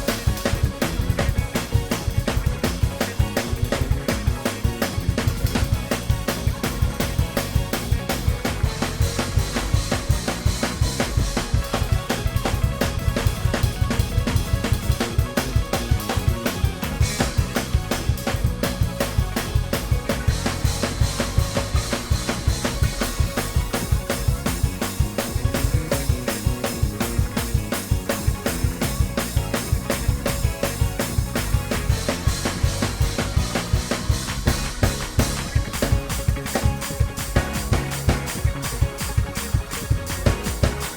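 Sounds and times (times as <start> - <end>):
bass notes: 0.0 - 40.9
fast drum kit groove: 0.0 - 40.9
keyboard chords: 0.0 - 40.9.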